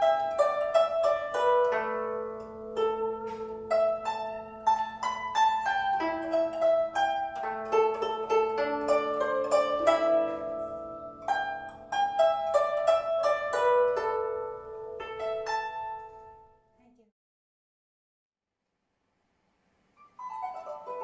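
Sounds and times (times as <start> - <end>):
plucked guzheng melody: 0.0 - 16.6, 20.1 - 21.0.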